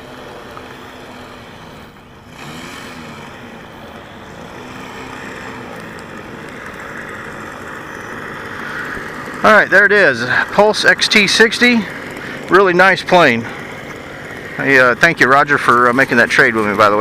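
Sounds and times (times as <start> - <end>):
model airplane engine idling: 0.0 - 17.0.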